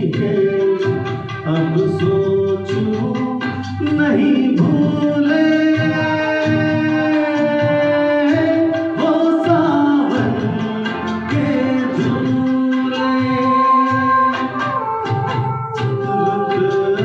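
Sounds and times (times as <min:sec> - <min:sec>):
song with long held notes: 0:00.0 - 0:17.0.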